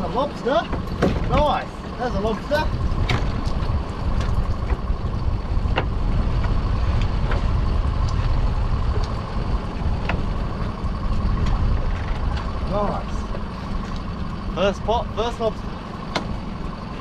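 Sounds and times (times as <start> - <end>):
boat engine idling: 0.0 - 17.0
engine whine: 0.0 - 17.0
wind buffeting microphone: 0.8 - 14.6.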